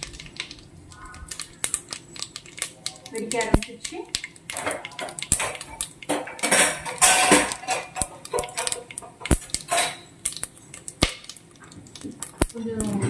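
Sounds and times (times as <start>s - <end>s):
spices sizzling and popping in oil: 0.0s - 13.0s.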